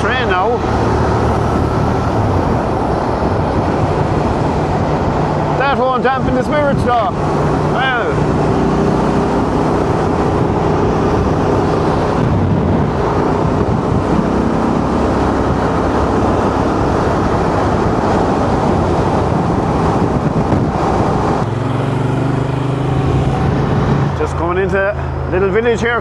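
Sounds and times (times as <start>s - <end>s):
wind on microphone: 0.0s - 24.4s
motorcycle engine running: 0.0s - 25.6s.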